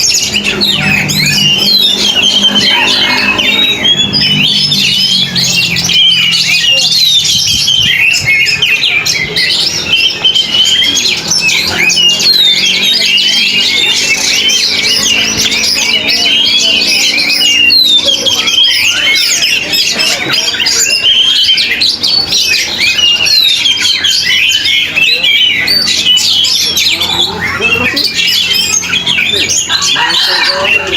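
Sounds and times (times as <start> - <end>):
bird singing loudly: 0.0 - 30.9.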